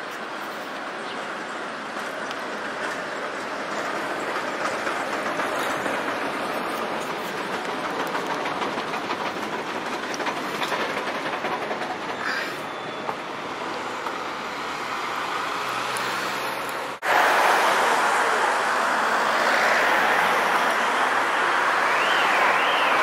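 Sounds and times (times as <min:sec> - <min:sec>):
tram wheels on rails: 0:00.0 - 0:23.0.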